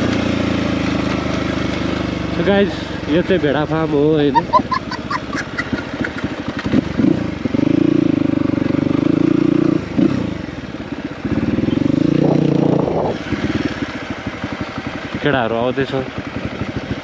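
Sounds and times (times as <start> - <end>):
dirt bike engine idling and revving: 0.0 - 17.0.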